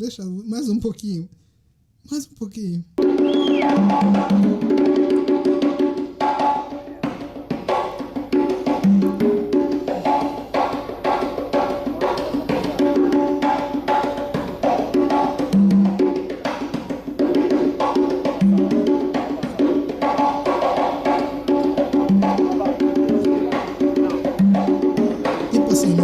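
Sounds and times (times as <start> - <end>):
pitched drum strokes: 3.0 - 26.0.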